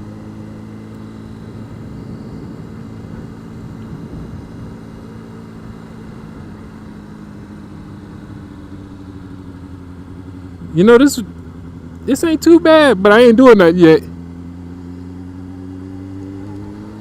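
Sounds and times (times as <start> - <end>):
motorcycle engine idling steadily: 0.0 - 17.0.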